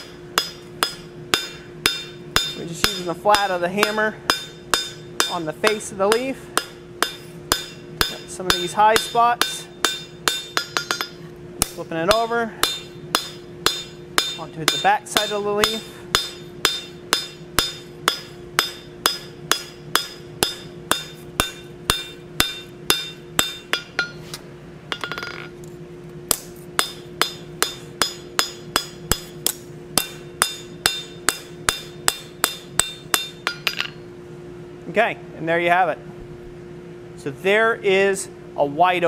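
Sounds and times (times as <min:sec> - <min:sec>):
hammer ringing on anvil: 0:00.0 - 0:24.2, 0:24.9 - 0:25.5, 0:26.3 - 0:34.0
steady low hum: 0:00.0 - 0:39.0.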